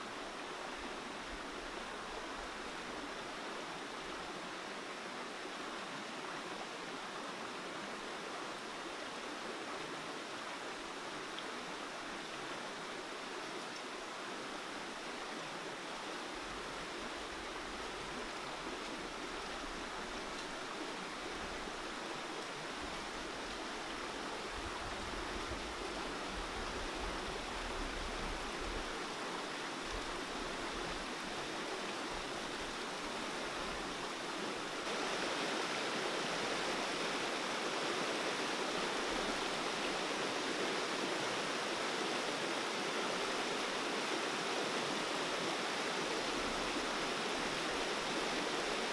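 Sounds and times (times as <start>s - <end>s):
river water rushing over rocks: 0.0s - 48.9s.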